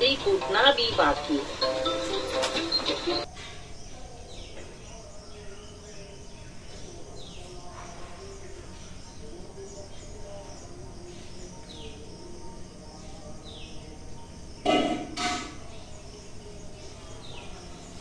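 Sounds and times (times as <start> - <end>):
tv audio at low volume: 0.0 - 18.0.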